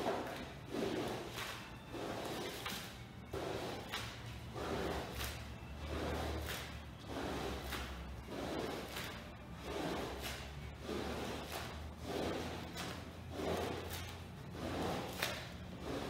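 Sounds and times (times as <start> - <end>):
rug paddle swishing through wet rug: 0.0 - 16.0.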